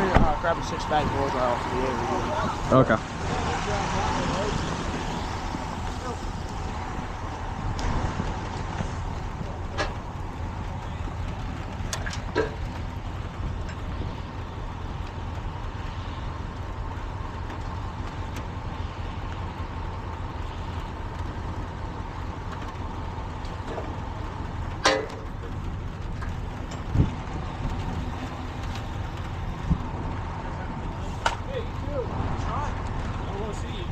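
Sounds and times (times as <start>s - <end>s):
vehicle engine idling: 0.0s - 33.9s.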